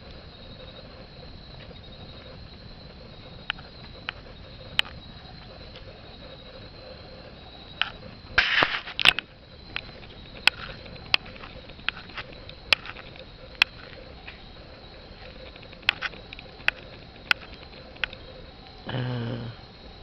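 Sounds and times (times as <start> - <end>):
bonfire crackling and popping: 0.0 - 18.9
faint steady hiss: 0.0 - 20.0.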